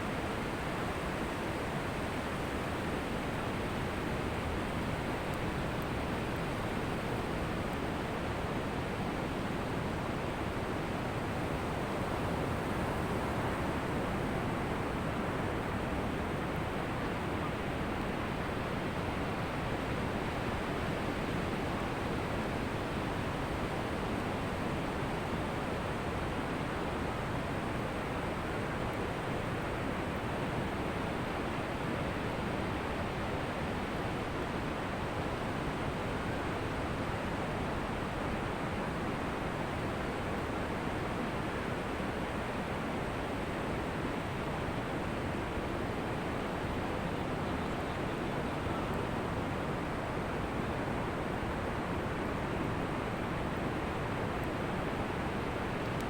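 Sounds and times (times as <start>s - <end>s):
ocean surf on a beach: 6.8s - 56.0s.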